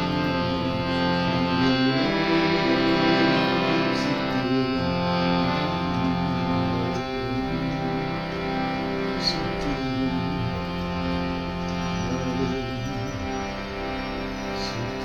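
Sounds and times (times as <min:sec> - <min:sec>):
instrumental music with sustained chords: 0:00.0 - 0:15.0.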